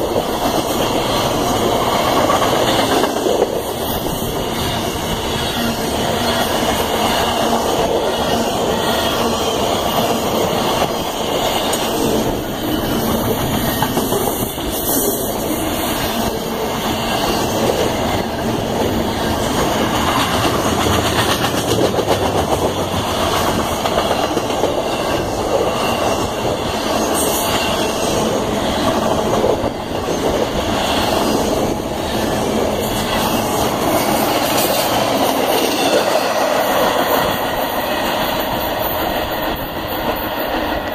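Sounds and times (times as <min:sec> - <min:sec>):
freight train wheels rolling on rails: 0:00.0 - 0:40.9.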